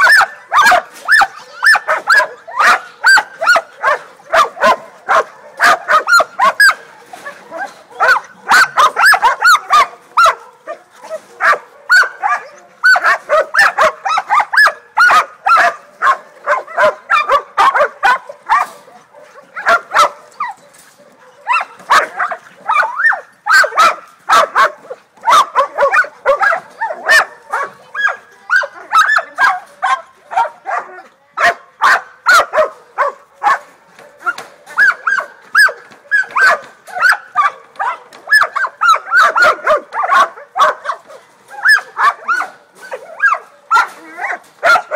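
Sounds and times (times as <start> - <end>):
puppies barking rapidly: 0.0 - 44.9.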